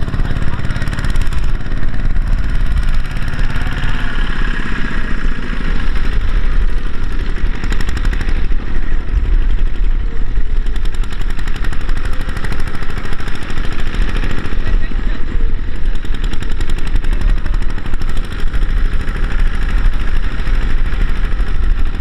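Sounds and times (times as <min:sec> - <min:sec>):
diesel tractor engine chugging: 0:00.0 - 0:22.0.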